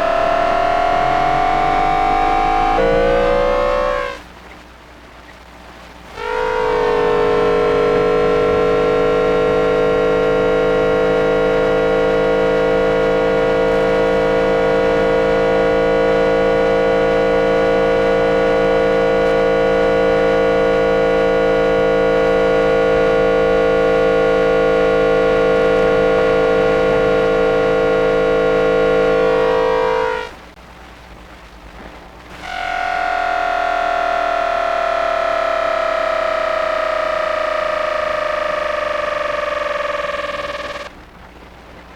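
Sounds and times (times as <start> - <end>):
electronic inverter whine: 0.0 - 4.3, 6.1 - 30.6, 31.8 - 41.1.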